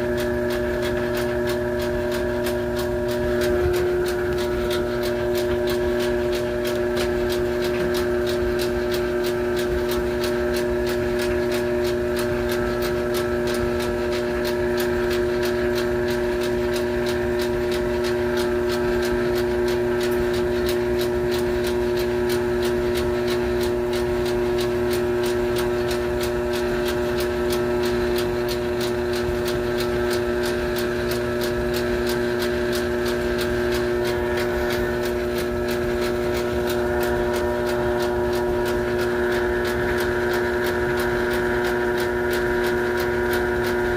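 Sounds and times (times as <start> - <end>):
motor humming: 0.0 - 43.9.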